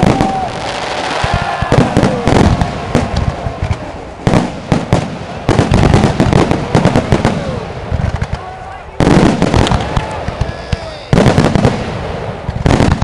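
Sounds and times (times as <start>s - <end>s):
fireworks bangs and crackling: 0.0s - 13.0s
fireworks whistling: 0.0s - 13.0s.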